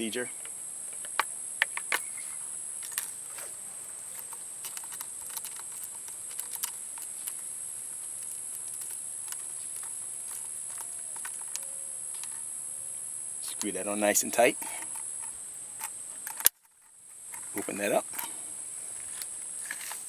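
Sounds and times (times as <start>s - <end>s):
high-pitched insect drone: 0.0s - 20.0s
metal parts clicking and tapping: 0.4s - 12.5s, 13.4s - 18.4s.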